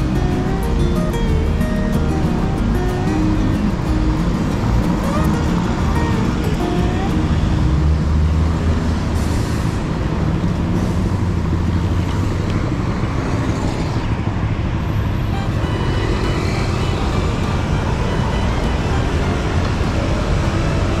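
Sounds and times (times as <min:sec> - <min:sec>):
traffic engines rumbling: 0:00.0 - 0:21.0.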